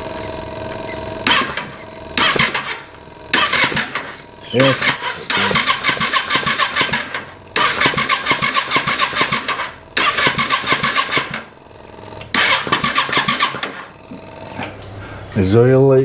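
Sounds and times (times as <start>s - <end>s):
motorcycle engine cranking: 0.0s - 14.8s.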